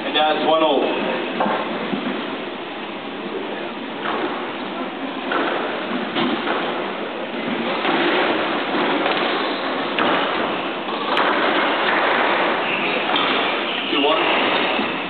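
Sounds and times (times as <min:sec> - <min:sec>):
steady background noise: 0:00.0 - 0:15.0
squash ball hitting racket and walls: 0:00.2 - 0:02.5, 0:03.6 - 0:15.0.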